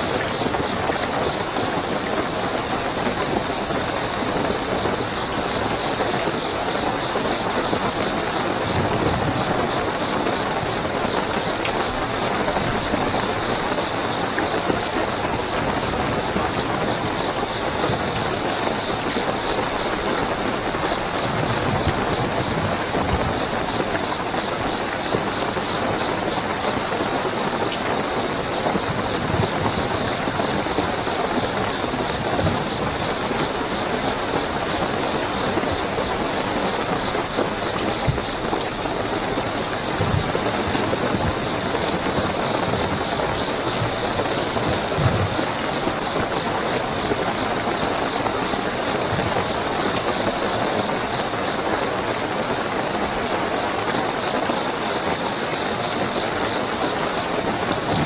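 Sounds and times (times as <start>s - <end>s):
heavy rain falling: 0.0s - 58.0s
high-pitched cricket trill: 0.0s - 58.0s.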